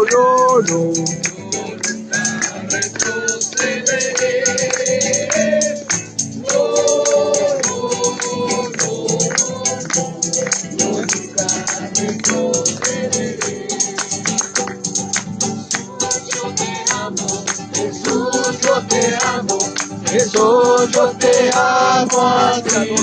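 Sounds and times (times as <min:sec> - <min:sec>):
tambourine beat: 0:00.0 - 0:23.0
group singing: 0:01.0 - 0:15.0, 0:15.7 - 0:23.0.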